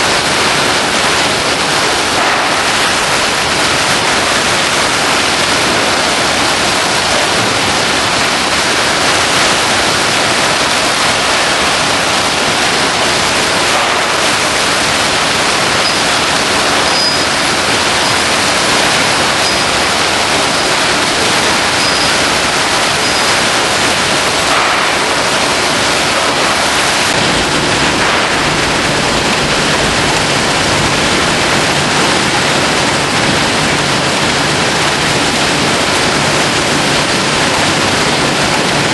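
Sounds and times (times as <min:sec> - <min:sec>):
conveyor line running: 0:00.0 - 0:38.9.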